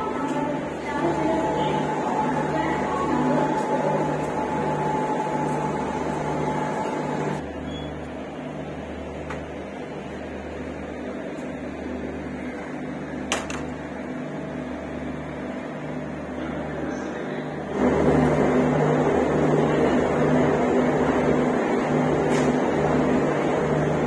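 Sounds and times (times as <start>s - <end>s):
higher steady hum: 0.0s - 24.0s
train mechanical hum: 0.0s - 24.0s.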